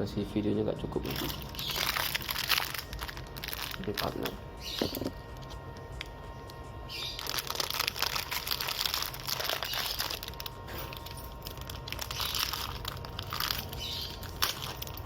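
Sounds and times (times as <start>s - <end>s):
plastic crinkling and rustling: 1.0s - 5.6s, 6.9s - 15.0s.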